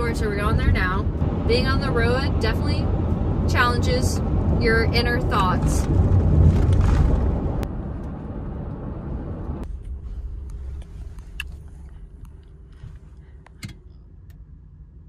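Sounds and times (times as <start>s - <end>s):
truck road and engine rumble: 0.0s - 15.0s.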